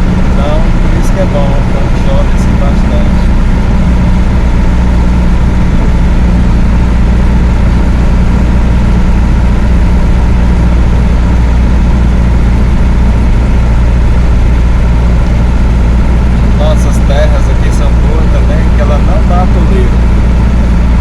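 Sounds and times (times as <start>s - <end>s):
diesel engine droning: 0.0s - 21.0s
road noise: 0.0s - 21.0s.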